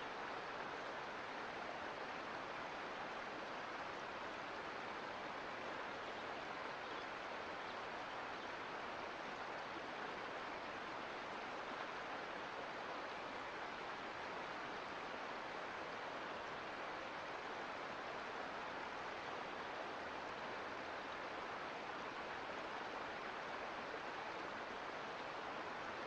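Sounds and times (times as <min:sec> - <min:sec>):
creek water flowing over rocks: 0:00.0 - 0:26.0.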